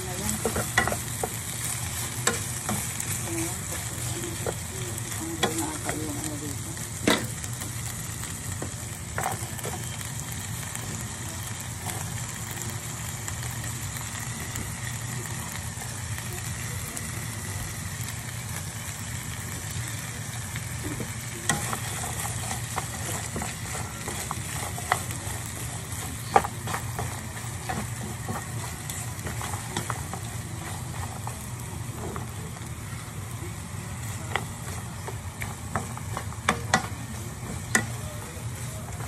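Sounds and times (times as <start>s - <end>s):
meat sizzling in a frying pan: 0.0s - 39.0s.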